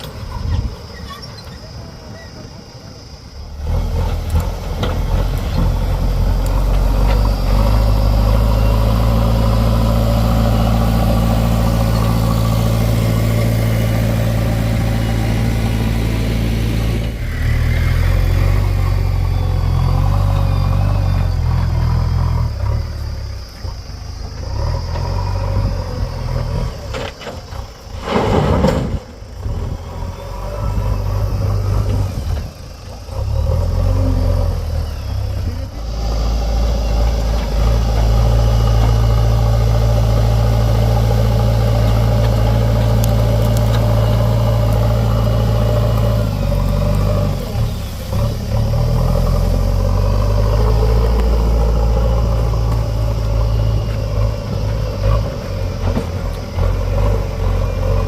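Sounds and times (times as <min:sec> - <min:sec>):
heavy diesel engine running: 0:01.7 - 0:58.0.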